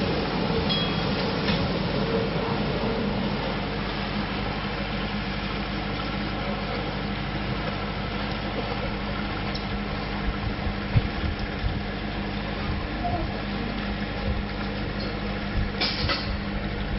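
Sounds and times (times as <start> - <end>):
steamer machinery humming: 0.0 - 16.9.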